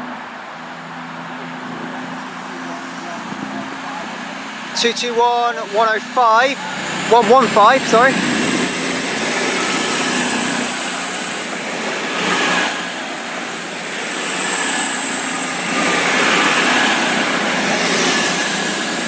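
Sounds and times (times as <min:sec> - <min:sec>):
diesel train engines droning: 0:00.0 - 0:19.0
high whine: 0:00.0 - 0:19.0.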